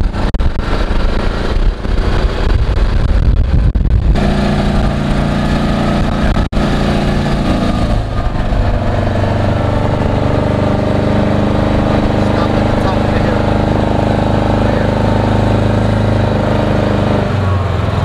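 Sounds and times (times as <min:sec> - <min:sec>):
off-road vehicle engine running: 0:00.0 - 0:18.0
wind rumbling on microphone: 0:00.0 - 0:18.0.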